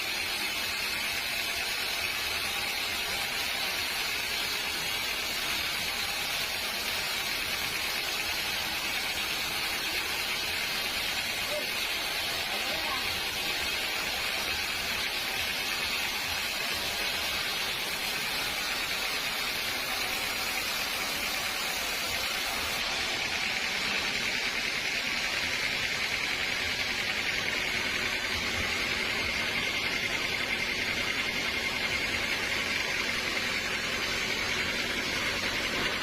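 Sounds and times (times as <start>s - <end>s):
sawmill saw cutting log: 0.0s - 36.0s.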